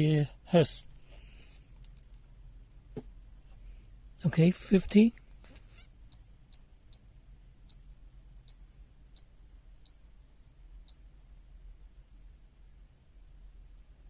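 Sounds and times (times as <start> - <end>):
faint low steady hum: 0.0 - 14.0.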